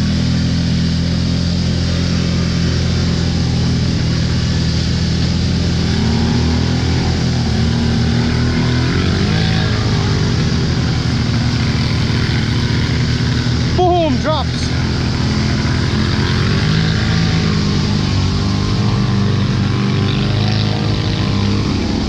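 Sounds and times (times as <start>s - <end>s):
atv engine running under load: 0.0s - 22.0s.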